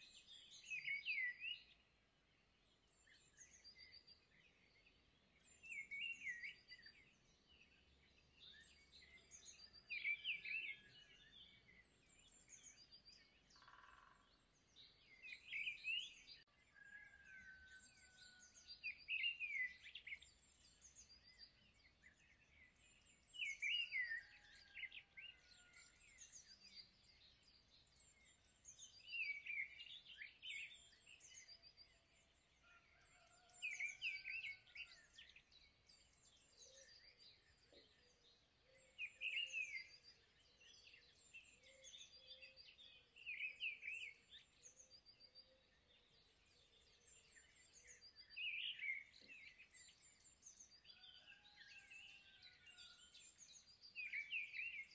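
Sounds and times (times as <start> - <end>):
faint birds chirping: 0.0 - 54.9.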